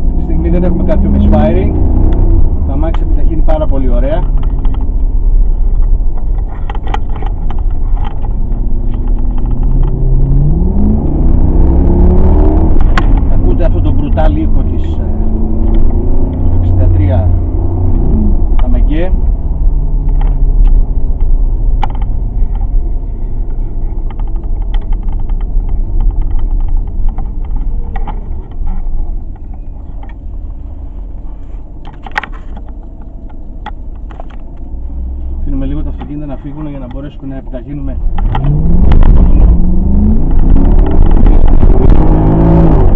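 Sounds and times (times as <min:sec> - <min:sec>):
car engine rumbling: 0:00.0 - 0:42.9
engine revving as car accelerates: 0:00.0 - 0:42.9
road noise: 0:00.0 - 0:42.9.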